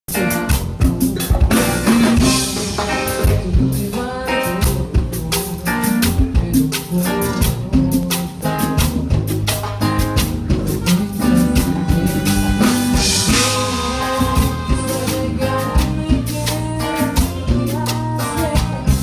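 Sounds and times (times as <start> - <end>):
drum kit beat: 0.1 - 19.0
instrument playing notes and chords: 0.1 - 19.0.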